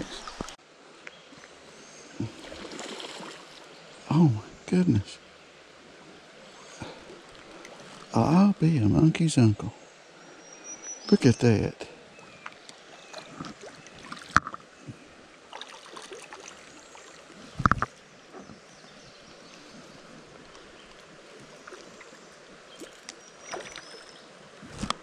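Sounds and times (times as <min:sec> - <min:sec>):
creek water trickling: 0:00.0 - 0:25.0.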